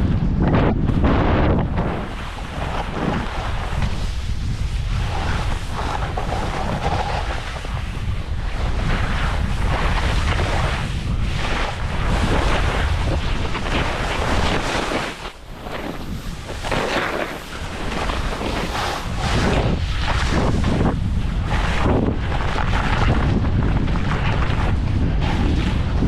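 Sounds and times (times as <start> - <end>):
wind rushing over microphone: 0.0 - 26.0
skis hissing through snow: 1.8 - 23.0.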